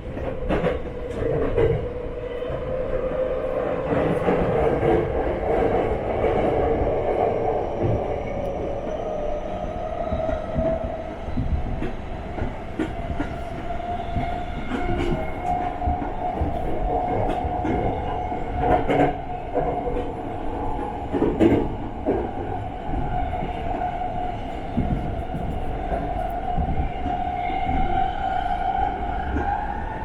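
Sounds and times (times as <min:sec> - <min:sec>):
wheels rumbling on rail: 0:00.0 - 0:30.0.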